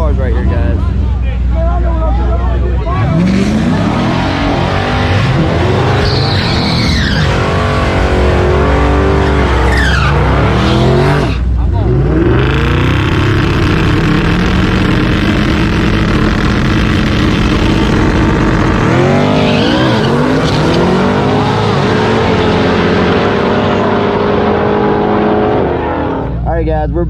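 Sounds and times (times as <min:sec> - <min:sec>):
race car engines accelerating: 0:00.0 - 0:27.0.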